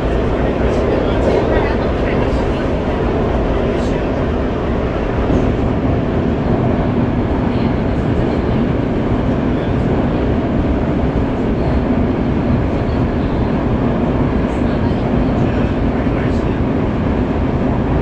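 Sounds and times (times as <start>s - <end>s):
train rumbling through tunnel: 0.0s - 18.0s.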